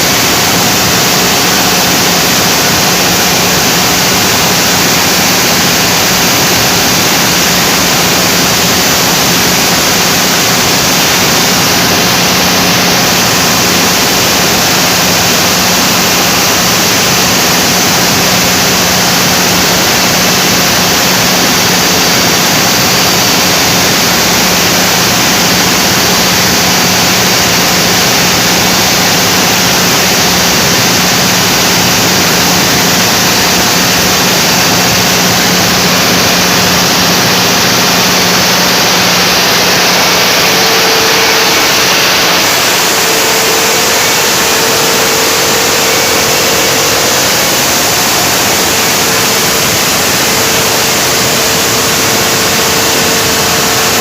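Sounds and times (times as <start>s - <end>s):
generator running: 0.0s - 54.0s.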